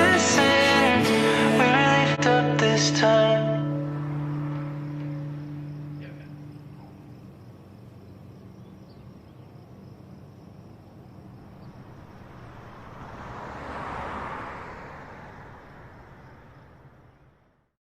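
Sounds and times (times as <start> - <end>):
vehicle passing: 0.0 - 17.7.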